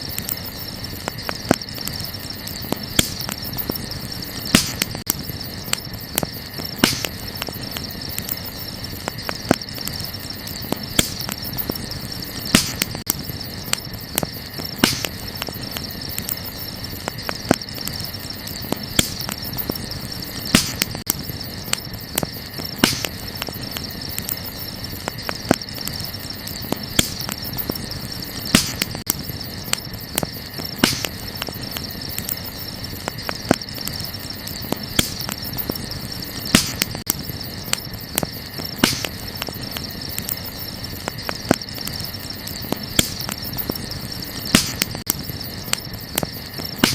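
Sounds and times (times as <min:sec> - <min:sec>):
campfire crackling and popping: 0:00.0 - 0:46.9
crickets chirring: 0:00.0 - 0:46.9.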